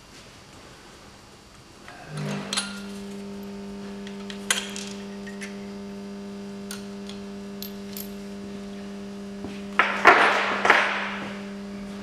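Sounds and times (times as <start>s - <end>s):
steady low tone: 1.9s - 12.0s.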